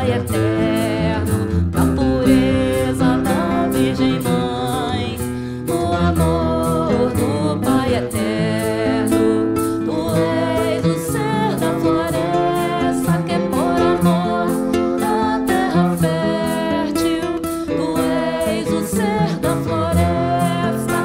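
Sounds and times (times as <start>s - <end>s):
acoustic guitar: 0.0s - 21.0s
person singing a hymn: 0.0s - 21.0s
shaker beat: 0.0s - 21.0s.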